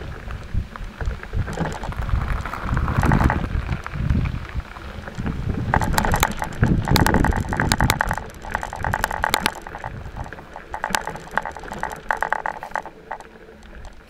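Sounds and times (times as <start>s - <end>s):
wheels rolling over gravel: 0.0s - 14.0s.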